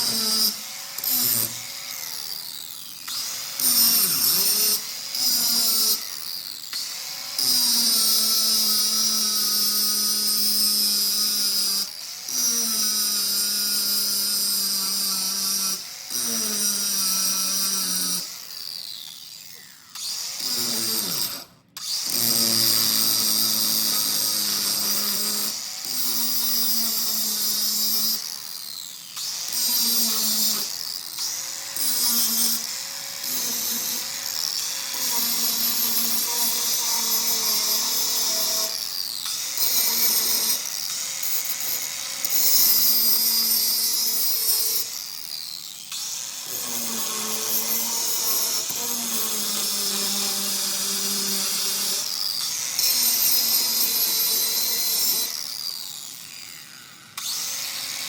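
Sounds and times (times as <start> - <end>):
power tool grinding paint off steel: 0.0 - 58.0.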